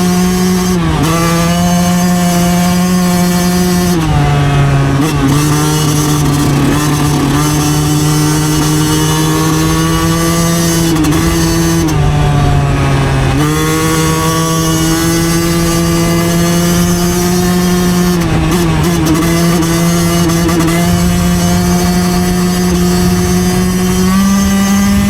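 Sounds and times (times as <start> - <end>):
two-stroke dirt bike engine: 0.0 - 25.0.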